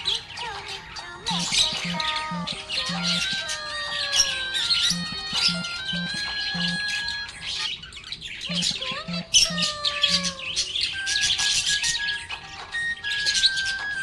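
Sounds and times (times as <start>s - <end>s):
background music simple melody: 0.0s - 14.0s
budgerigar chirping and warbling: 0.0s - 14.0s.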